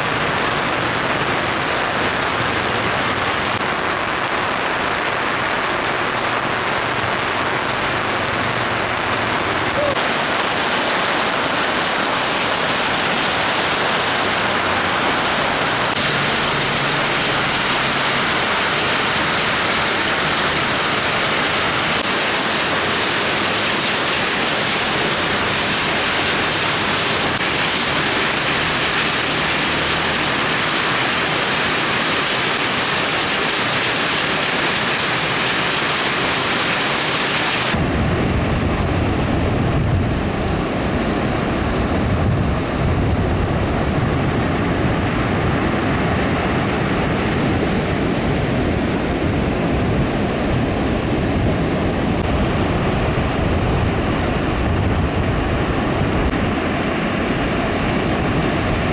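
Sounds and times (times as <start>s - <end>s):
rain falling steadily: 0.0s - 58.9s.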